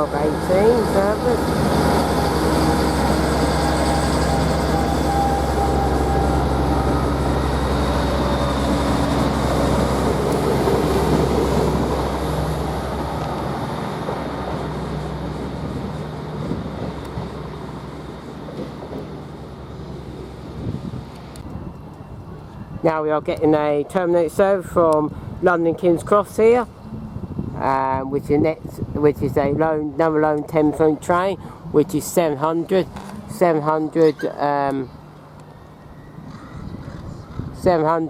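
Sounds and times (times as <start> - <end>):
diesel train engines pulling away: 0.0 - 27.6, 29.8 - 37.9.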